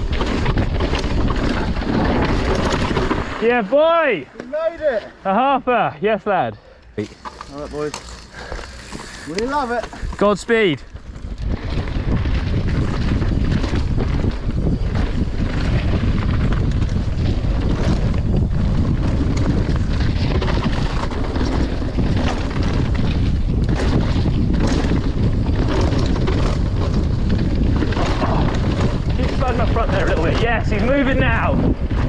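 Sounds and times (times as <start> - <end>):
wind buffeting microphone: 0.0 - 3.7, 7.0 - 32.0
mountain bike clattering over rocks: 0.0 - 5.0, 7.0 - 32.0.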